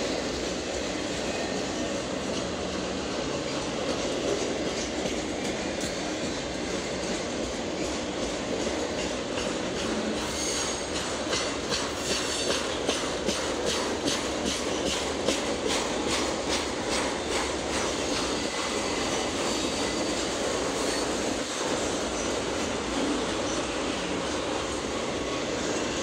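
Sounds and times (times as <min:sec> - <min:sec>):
train wheels rumbling on rail: 0:00.0 - 0:26.0
wheels clicking over rail joints: 0:00.0 - 0:26.0.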